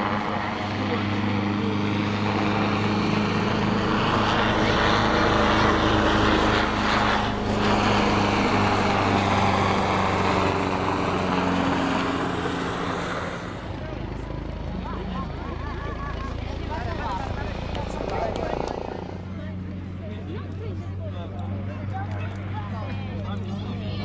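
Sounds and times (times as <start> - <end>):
helicopter flying past: 0.0 - 24.0.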